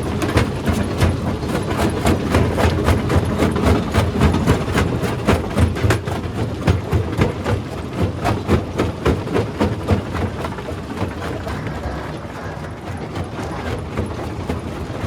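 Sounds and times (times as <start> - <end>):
rock crusher rumble: 0.0 - 15.0.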